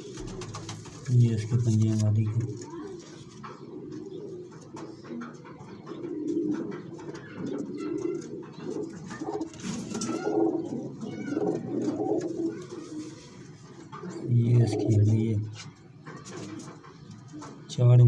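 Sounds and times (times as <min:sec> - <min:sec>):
pigeons cooing: 0:00.0 - 0:17.7.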